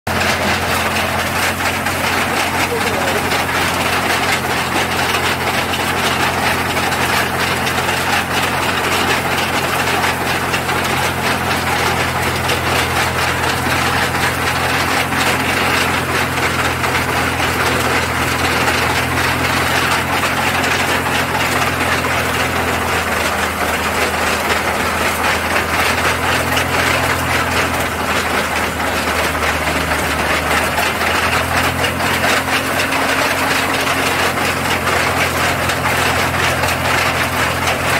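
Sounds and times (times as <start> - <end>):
clatter of cast-iron gears: 0.1 - 37.9
engine hum: 0.1 - 37.9.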